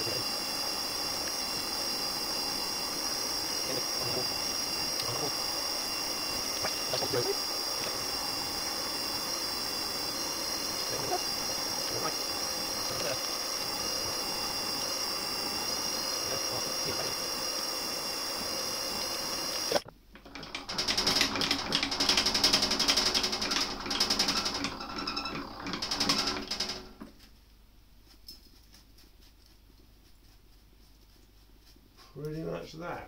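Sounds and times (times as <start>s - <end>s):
milling machine cutting metal: 0.0s - 26.7s.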